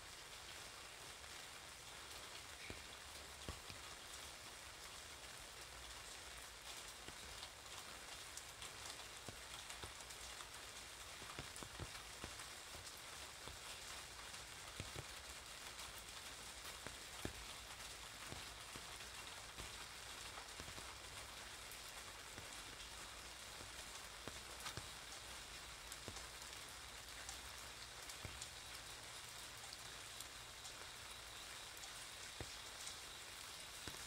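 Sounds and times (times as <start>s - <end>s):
rain on wet pavement: 0.0s - 34.0s
raindrops tapping on umbrella: 0.2s - 34.0s.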